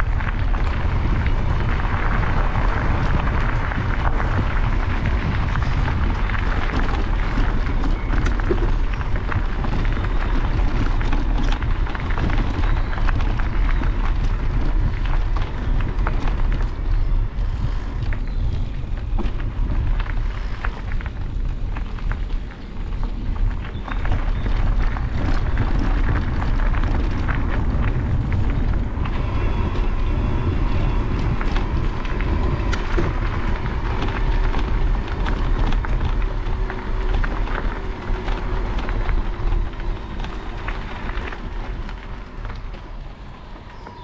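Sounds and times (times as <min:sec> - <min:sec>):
loose stones ticking: 0:00.0 - 0:44.0
tyres rolling over gravel: 0:00.0 - 0:44.0
wind buffeting microphone: 0:00.0 - 0:44.0.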